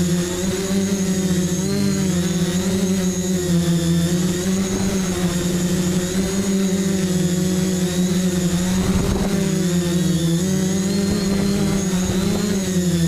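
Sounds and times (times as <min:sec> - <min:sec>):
quadcopter motors humming: 0:00.0 - 0:13.0.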